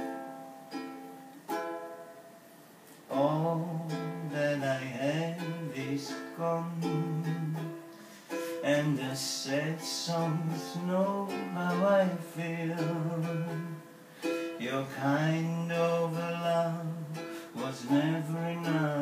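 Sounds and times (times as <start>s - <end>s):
acoustic strummed chords: 0.0s - 19.0s
low wordless vocal melody: 3.1s - 19.0s.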